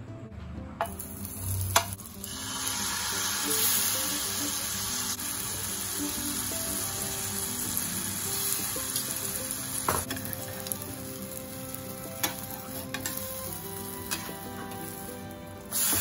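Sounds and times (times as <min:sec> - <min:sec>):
soft background music: 0:00.0 - 0:16.0
batter sizzling in oil: 0:00.8 - 0:16.0.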